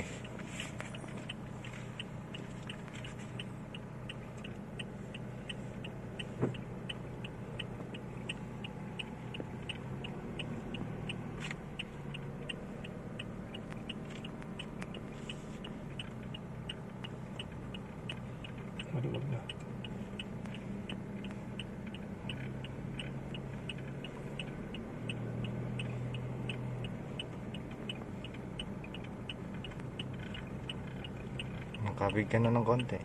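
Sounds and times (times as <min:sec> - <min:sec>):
car engine humming: 0:00.0 - 0:33.0
turn signal ticking: 0:00.0 - 0:33.0.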